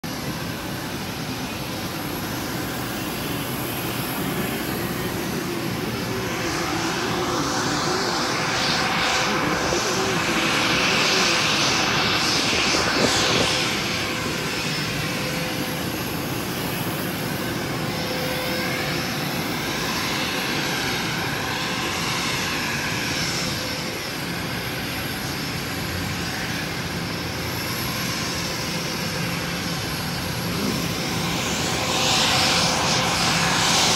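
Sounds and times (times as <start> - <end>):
aircraft engine whine: 0.0 - 33.9.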